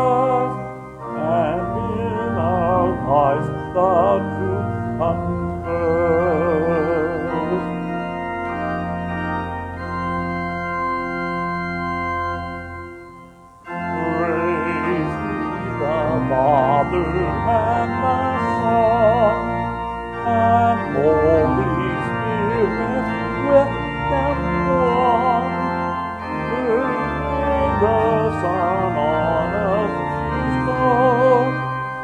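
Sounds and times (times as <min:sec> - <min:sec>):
voices singing a hymn: 0:00.0 - 0:07.8, 0:13.7 - 0:31.8
organ playing: 0:00.0 - 0:32.0.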